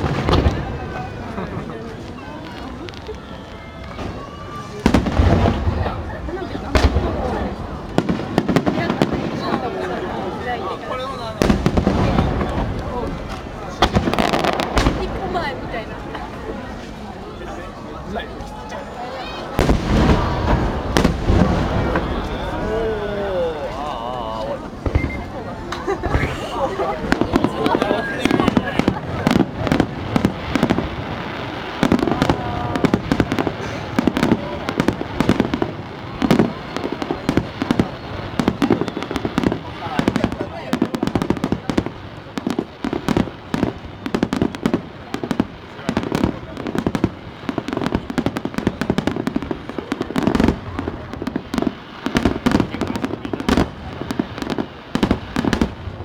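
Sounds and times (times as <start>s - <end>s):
fireworks bursting with crackle: 0.0s - 56.0s.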